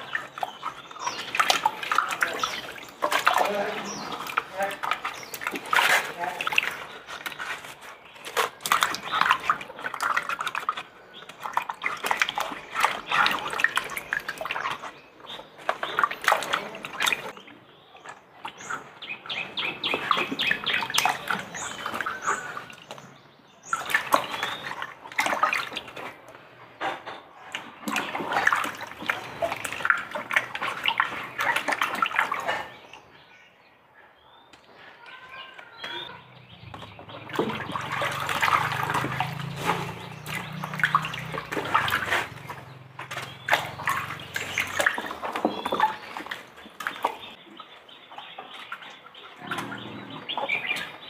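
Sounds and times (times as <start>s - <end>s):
water splashing and sloshing: 0.0s - 33.3s, 34.6s - 51.0s.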